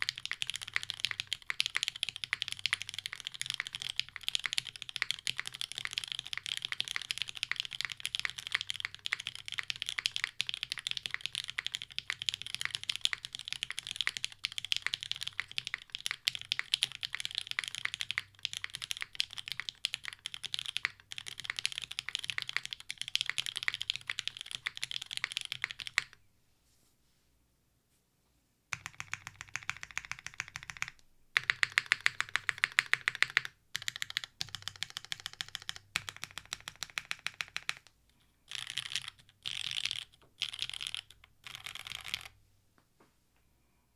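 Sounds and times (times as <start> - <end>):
mechanical keyboard typing: 0.0 - 26.2, 28.7 - 37.9, 38.5 - 42.4.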